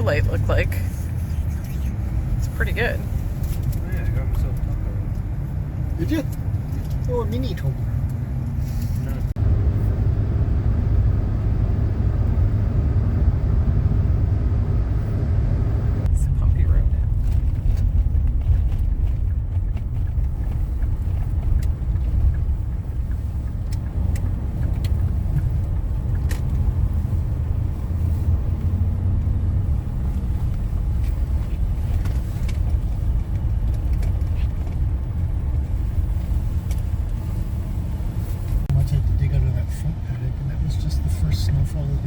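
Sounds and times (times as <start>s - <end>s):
tyre and engine rumble: 0.0s - 42.0s.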